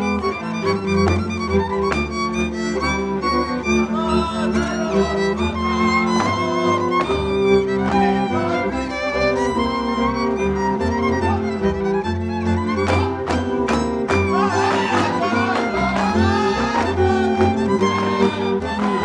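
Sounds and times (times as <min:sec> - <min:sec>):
fiddle melody: 0:00.0 - 0:19.0
folk string band playing: 0:00.0 - 0:19.0.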